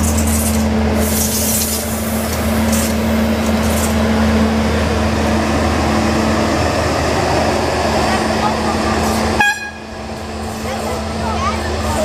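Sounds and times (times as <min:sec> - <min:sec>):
locomotive diesel engine running: 0:00.0 - 0:12.0.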